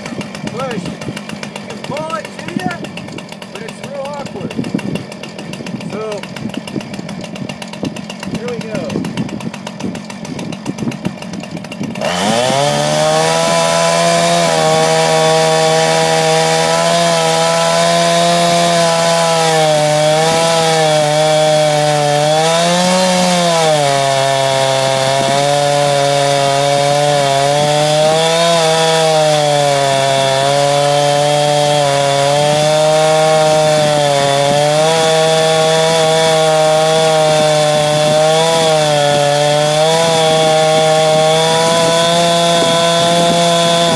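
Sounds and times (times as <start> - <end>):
chainsaw cutting log: 0.0 - 43.9.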